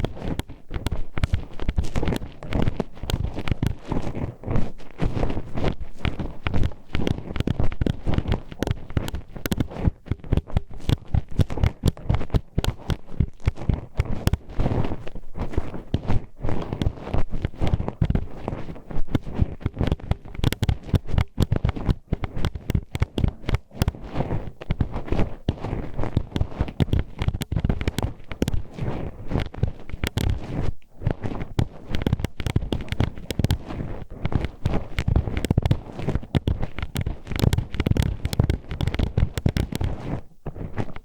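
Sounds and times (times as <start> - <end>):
hairpin scraping microphone: 0.0 - 41.0.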